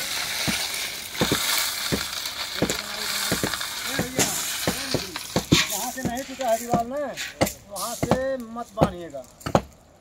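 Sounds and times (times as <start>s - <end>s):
stones clattering knocks: 0.0s - 9.8s
stones pouring hiss: 0.0s - 9.8s.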